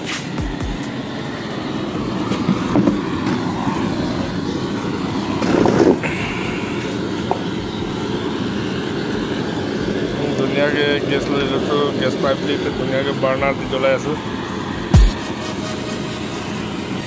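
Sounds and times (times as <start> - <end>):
gas burner rushing: 0.0 - 17.0.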